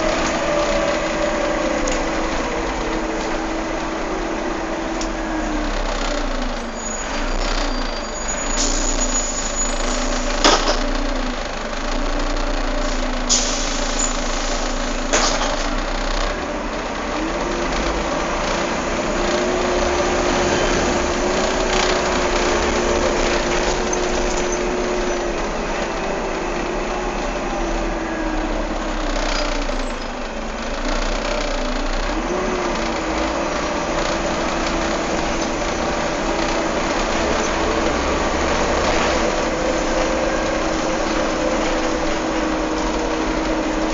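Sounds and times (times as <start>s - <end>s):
bus engine idling: 0.0s - 43.9s.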